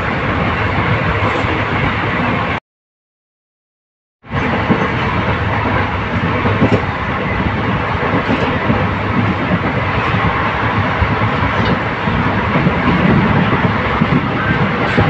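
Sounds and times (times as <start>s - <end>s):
train wheels rumbling on track: 0.0s - 2.6s, 4.3s - 15.0s.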